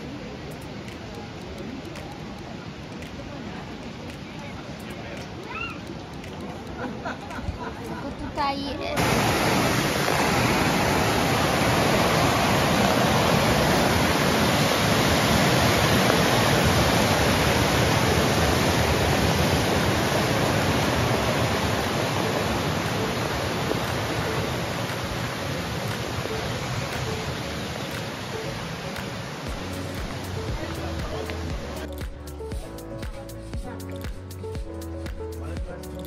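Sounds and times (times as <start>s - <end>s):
water rushing over cascade: 0.0s - 8.0s, 8.8s - 33.2s.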